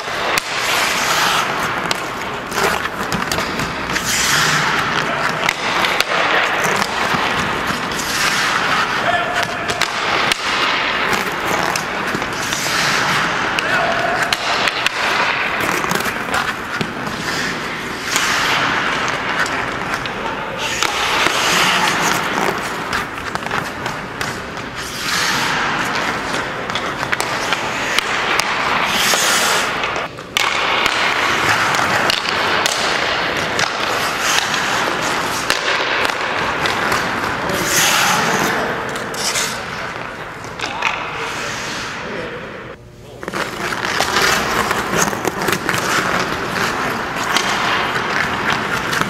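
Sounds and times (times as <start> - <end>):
skate blades scraping on ice: 0.0 - 42.0, 43.2 - 49.0
sticks hitting pucks: 0.0 - 49.0.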